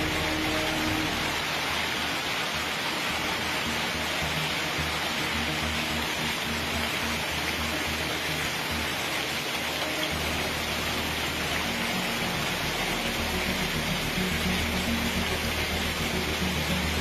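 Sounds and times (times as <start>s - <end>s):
heavy rain and hail: 0.0s - 17.0s.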